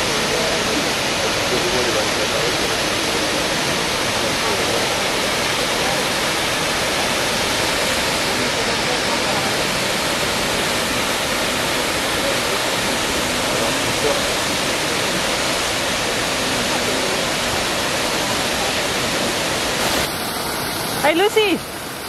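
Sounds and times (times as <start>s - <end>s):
waterfall rushing over rock: 0.0s - 22.0s.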